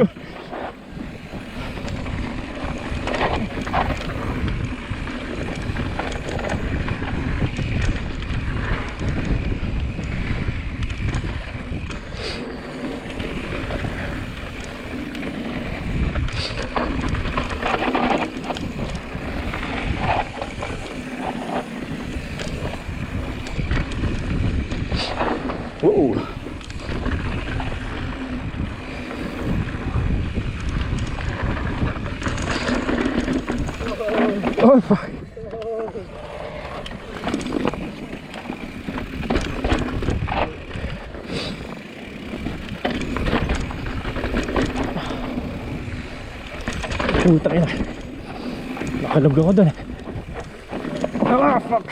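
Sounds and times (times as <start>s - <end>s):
bike rattling clicks: 0.0s - 51.9s
tyres rumbling on dirt trail: 0.0s - 51.9s
wind rushing over camera: 0.0s - 51.9s.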